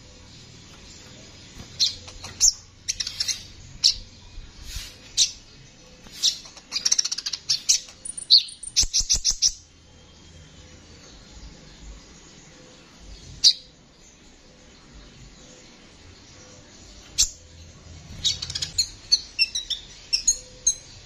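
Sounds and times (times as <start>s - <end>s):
sunbird chirping and trilling: 0.1s - 21.0s.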